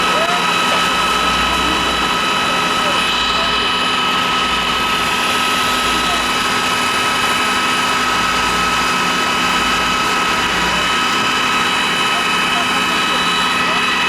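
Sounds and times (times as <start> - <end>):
machine drone with high whine: 0.0 - 14.0.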